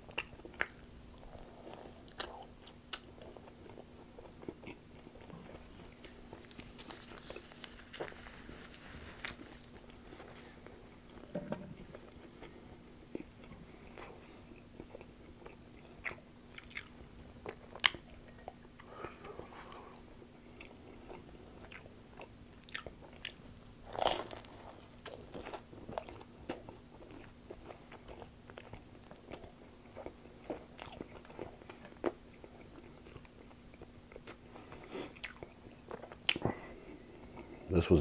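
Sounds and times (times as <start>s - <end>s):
crunching and chewing: 0.0s - 38.0s
faint steady hum: 0.0s - 38.0s.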